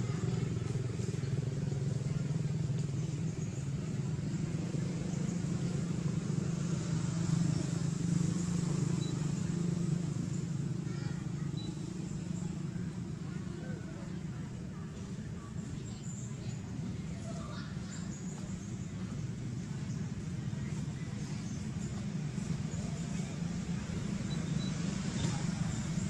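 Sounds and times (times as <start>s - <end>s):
engine running drone: 0.0s - 26.0s.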